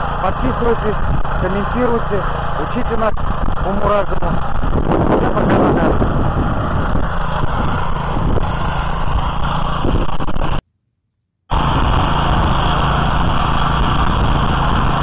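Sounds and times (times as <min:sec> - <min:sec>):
small petrol engine running: 0:00.0 - 0:10.6, 0:11.5 - 0:15.0.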